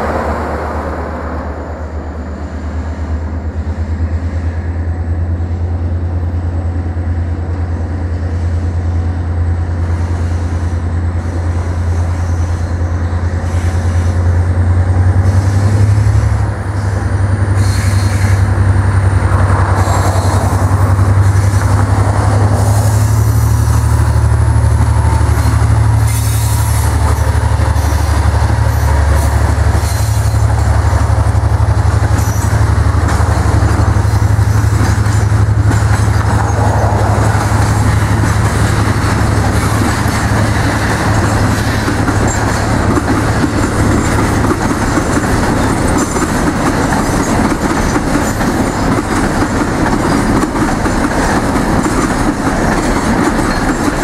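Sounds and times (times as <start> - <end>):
diesel locomotive engine drone: 0.0 - 54.0
freight cars clickety-clack: 5.3 - 54.0.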